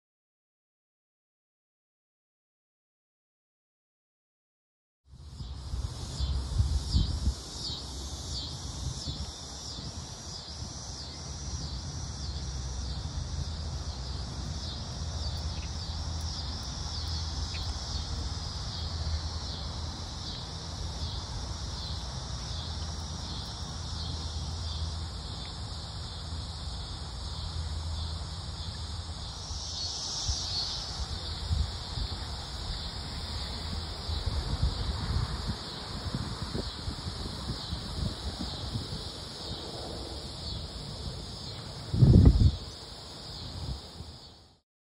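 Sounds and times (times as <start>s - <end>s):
insects buzzing: 5.1s - 44.6s.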